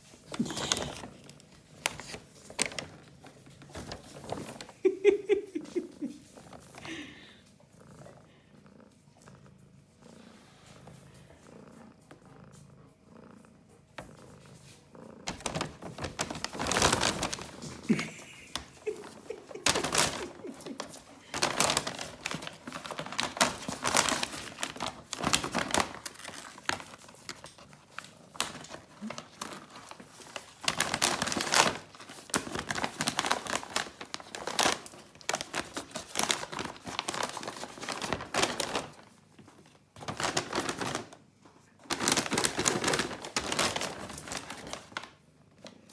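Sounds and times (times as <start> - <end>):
paper bag rustling and crinkling: 0.0 - 7.2, 15.2 - 41.2, 41.8 - 45.7.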